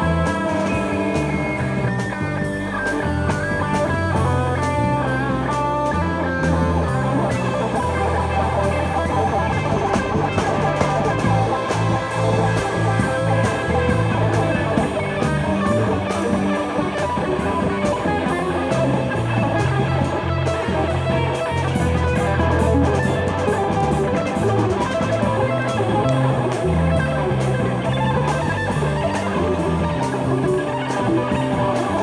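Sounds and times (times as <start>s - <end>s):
rock music: 0.0s - 32.0s.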